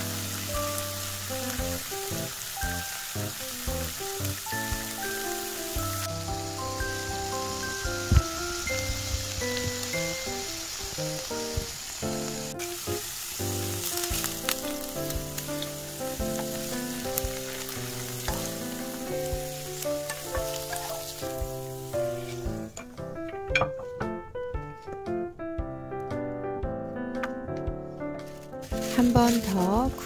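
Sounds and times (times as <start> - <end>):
potato pancakes sizzling in oil: 0.0 - 22.8, 28.6 - 30.0
keyboard music: 0.0 - 30.0.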